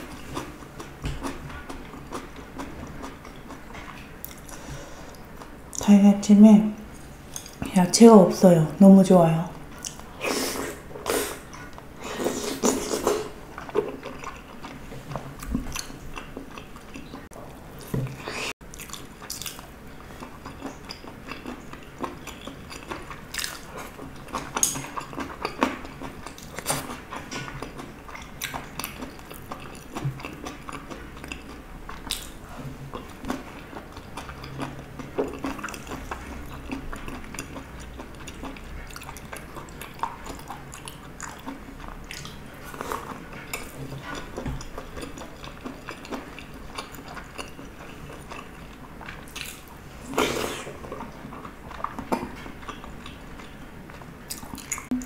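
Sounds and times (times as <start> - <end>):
mouth chewing soft food: 9.5 - 55.0.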